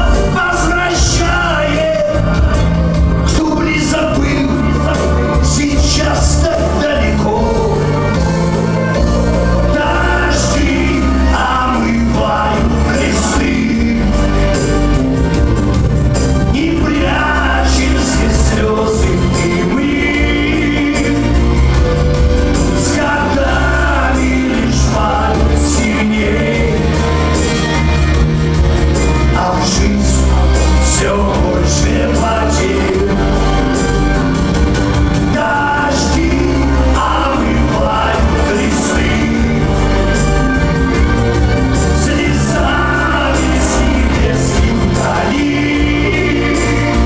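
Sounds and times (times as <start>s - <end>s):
heavy bass line: 0.0s - 47.0s
live band playing: 0.0s - 47.0s
man singing: 0.0s - 47.0s.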